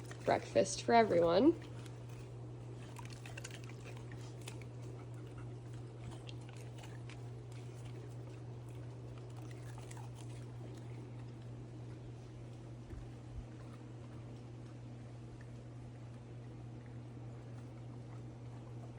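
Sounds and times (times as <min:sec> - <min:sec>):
dogs chewing and licking: 0:00.0 - 0:18.9
low hum: 0:00.0 - 0:18.9.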